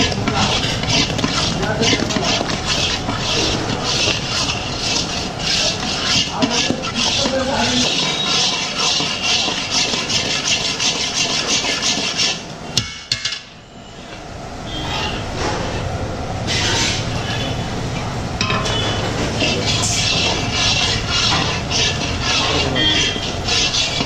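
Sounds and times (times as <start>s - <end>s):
metal spatula scraping iron pan: 0.0s - 12.4s, 16.5s - 24.0s.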